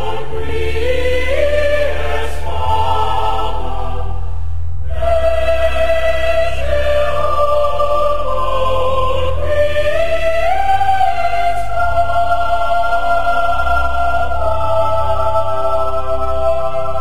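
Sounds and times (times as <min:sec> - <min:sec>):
slow choir-like music: 0:00.0 - 0:17.0.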